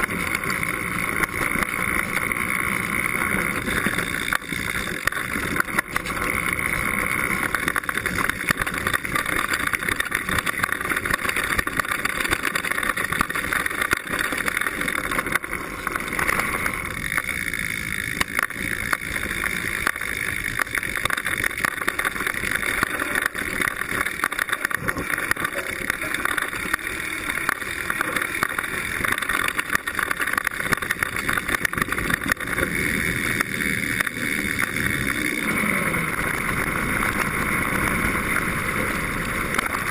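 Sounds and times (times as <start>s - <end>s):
bike rattling and knocking: 0.0s - 39.9s
tyres and wind rushing: 0.0s - 39.9s.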